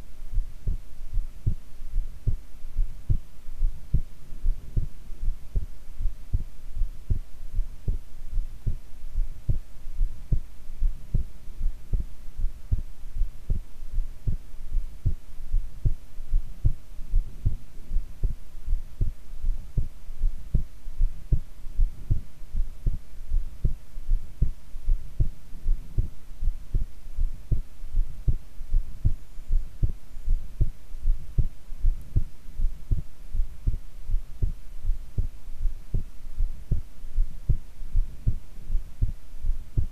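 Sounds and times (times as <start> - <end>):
faint steady hum: 0.0 - 39.9
heartbeat: 0.3 - 39.9.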